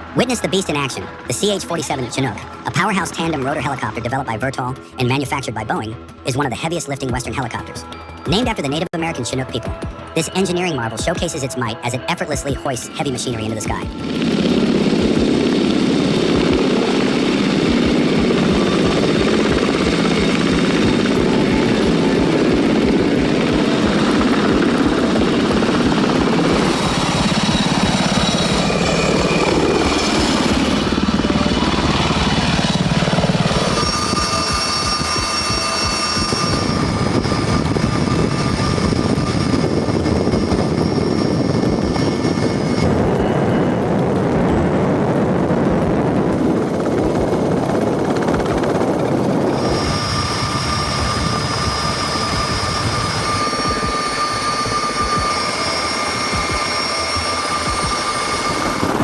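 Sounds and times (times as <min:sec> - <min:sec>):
helicopter rotors and turbines: 0:00.0 - 0:59.0
thin steady whines: 0:09.2 - 0:59.0.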